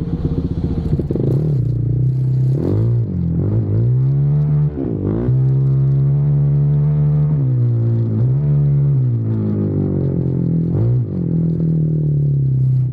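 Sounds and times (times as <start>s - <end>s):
off-road vehicle engine revving: 0.0s - 11.6s.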